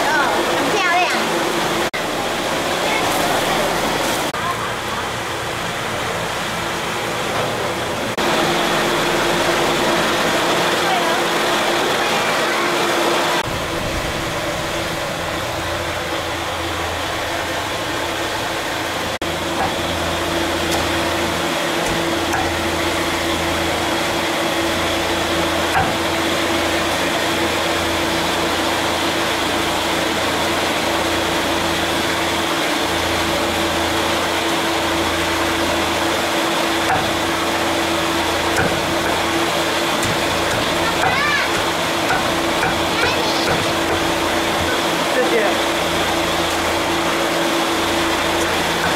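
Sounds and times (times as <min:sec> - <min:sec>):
fan motor humming: 0:00.0 - 0:48.9.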